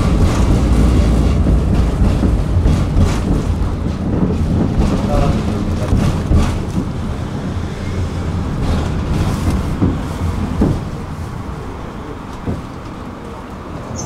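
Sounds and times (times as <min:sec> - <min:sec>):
track knocks: 0:00.0 - 0:14.0
tram wheels rumbling on rails: 0:00.0 - 0:14.0.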